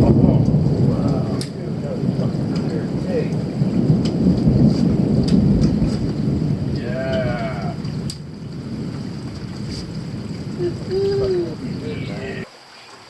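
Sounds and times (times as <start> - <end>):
thunder rumbling: 0.0 - 12.5
steady rain: 0.0 - 13.0.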